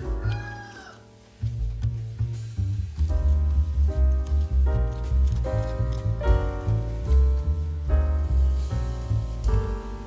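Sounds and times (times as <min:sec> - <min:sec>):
gentle piano instrumental with beat: 0:00.0 - 0:10.0.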